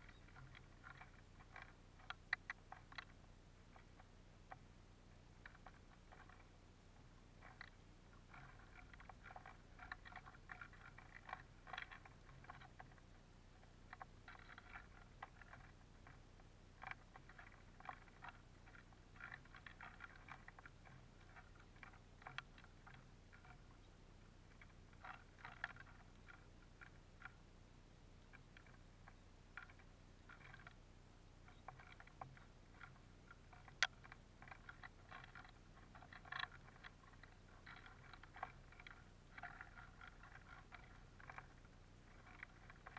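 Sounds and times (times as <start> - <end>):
birds cracking seeds: 0.0 - 42.9.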